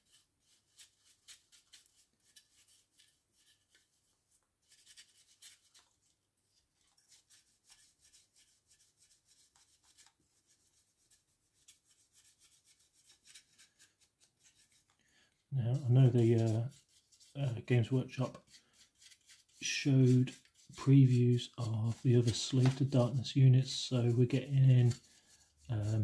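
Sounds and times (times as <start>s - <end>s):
dry brush scratching plastic: 0.0s - 26.0s.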